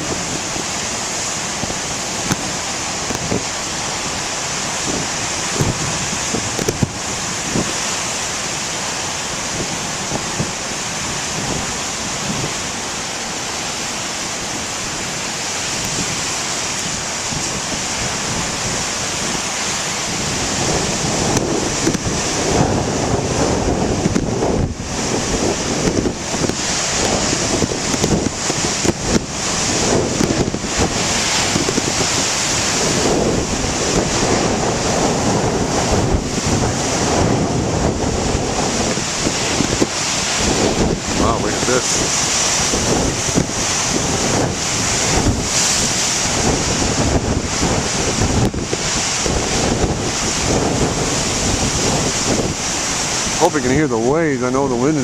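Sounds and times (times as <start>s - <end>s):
ocean waves crashing: 0.0s - 55.0s
wind buffeting microphone: 0.0s - 55.0s.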